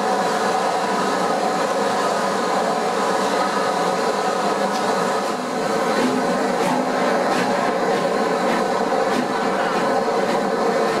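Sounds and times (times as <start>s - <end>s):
train wheel and running noise: 0.0s - 11.0s.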